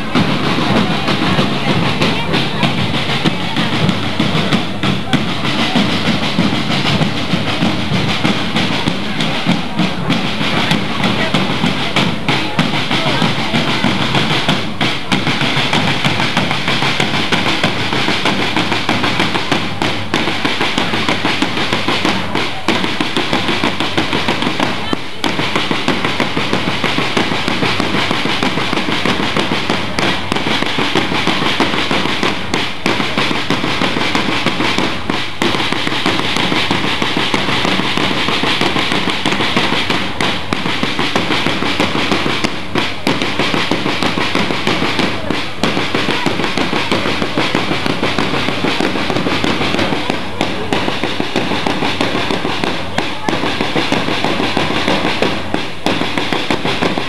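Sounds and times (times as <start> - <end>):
band with rapid drums: 0.0 - 57.0.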